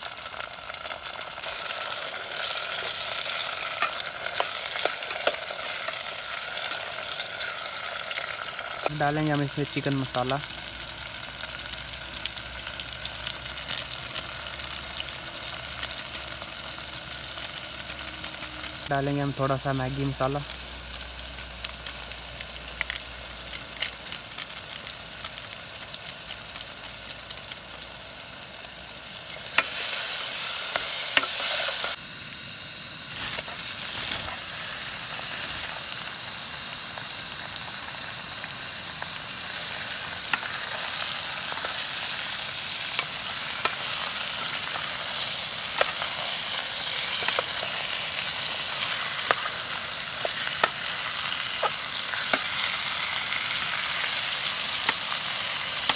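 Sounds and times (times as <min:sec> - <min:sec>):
masala sizzling in oil: 0:00.0 - 0:55.9.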